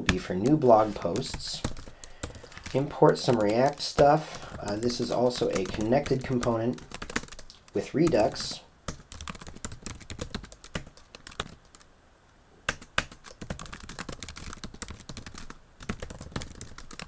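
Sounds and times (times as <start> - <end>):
fast typing on keyboard: 0.0 - 11.9, 12.7 - 17.0.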